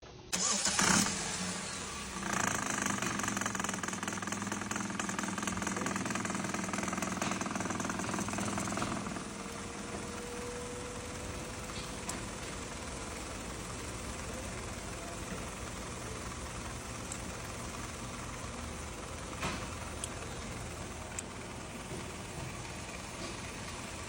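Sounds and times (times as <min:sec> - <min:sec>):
vehicle engine running: 0:00.3 - 0:24.0.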